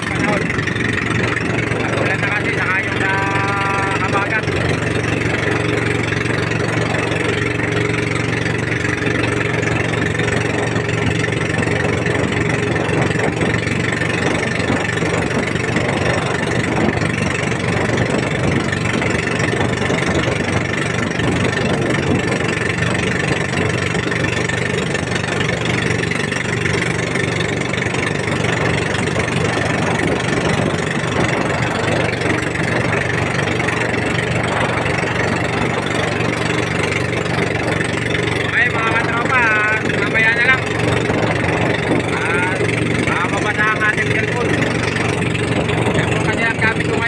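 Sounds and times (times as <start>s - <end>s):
boat engine running: 0.0s - 47.0s.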